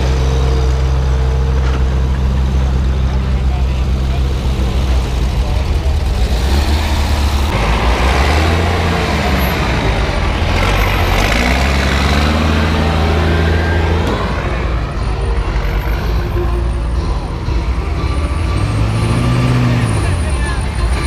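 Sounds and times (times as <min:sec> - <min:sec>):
heavy vehicle engine revving: 0:00.0 - 0:21.0.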